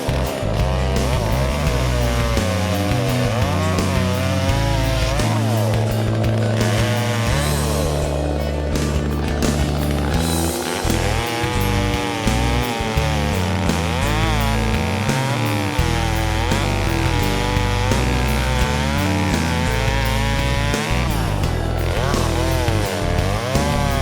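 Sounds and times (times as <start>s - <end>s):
background music with bass line: 0.0s - 24.0s
chainsaw cutting wood: 0.0s - 24.0s.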